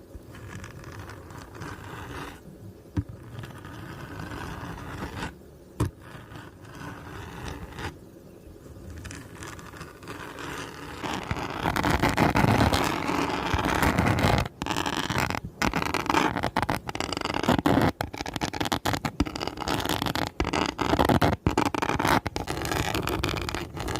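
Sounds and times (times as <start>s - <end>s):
rasping scratching scrape: 0.3s - 2.4s, 3.2s - 8.0s, 8.9s - 23.9s.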